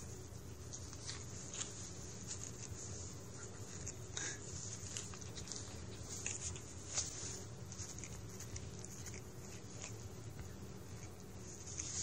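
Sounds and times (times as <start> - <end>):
cat rustling on carpet: 0.0 - 12.0
steady low hum: 0.0 - 12.0.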